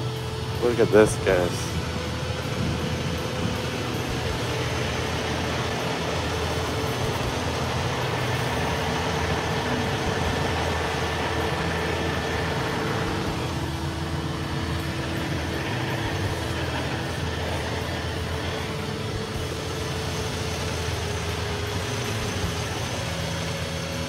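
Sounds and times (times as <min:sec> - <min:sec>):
road noise: 0:00.0 - 0:24.0
vehicle engines humming: 0:00.0 - 0:24.0.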